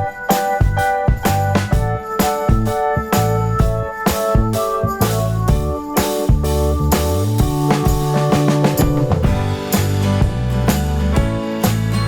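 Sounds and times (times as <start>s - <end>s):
drum and shaker beat: 0.0s - 12.0s
upbeat keyboard music: 0.0s - 12.0s.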